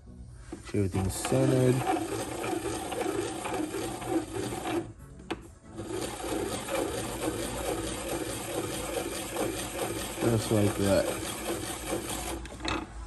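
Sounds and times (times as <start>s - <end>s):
hand-cranked filer rasping: 0.9s - 4.9s, 5.8s - 12.8s.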